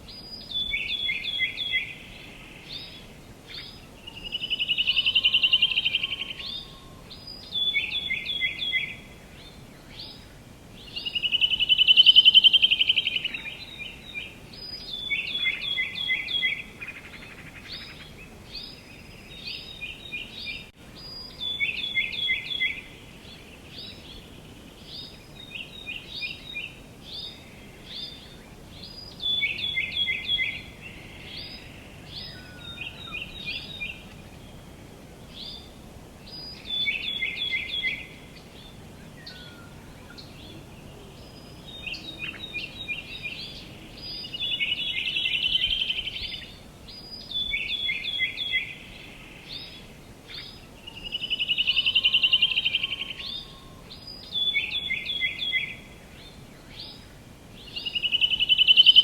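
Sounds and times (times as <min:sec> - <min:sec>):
birds singing: 0:00.0 - 0:59.0
faint steady hiss: 0:00.0 - 0:59.0.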